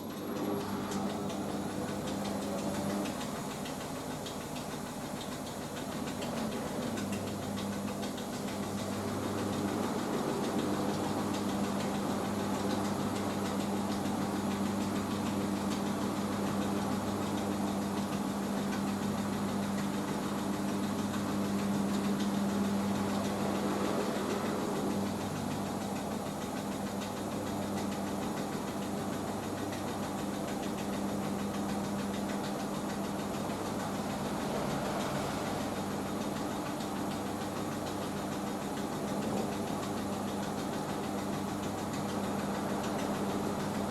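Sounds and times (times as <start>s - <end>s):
washing machine spinning hum: 0.0s - 43.9s.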